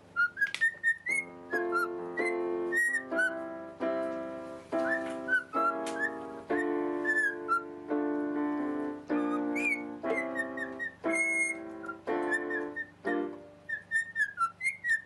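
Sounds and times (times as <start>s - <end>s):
cockatiel whistling: 0.1s - 3.5s, 4.7s - 7.8s, 9.1s - 15.0s
electronic keyboard chords: 1.2s - 13.6s.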